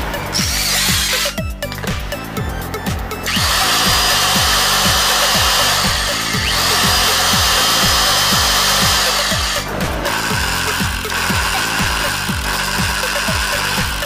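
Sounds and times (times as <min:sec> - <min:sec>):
background music with bass beat: 0:00.0 - 0:14.0
electric demolition breaker running: 0:00.0 - 0:14.0.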